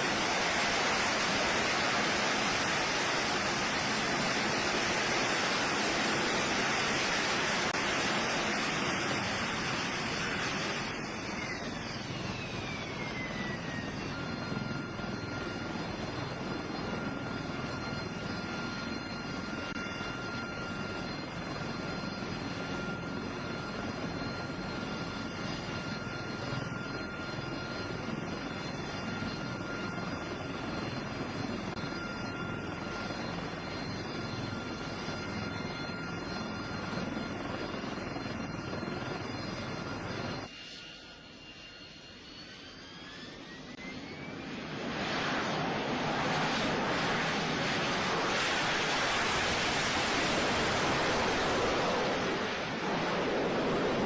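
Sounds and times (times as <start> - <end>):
engine running with high whine: 0.0 - 54.0
faint rising whine tones: 0.0 - 54.0.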